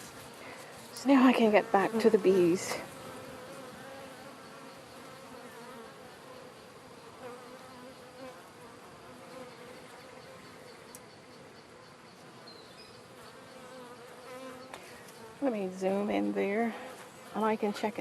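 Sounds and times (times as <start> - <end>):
bees buzzing: 0.0 - 10.9, 12.9 - 18.0.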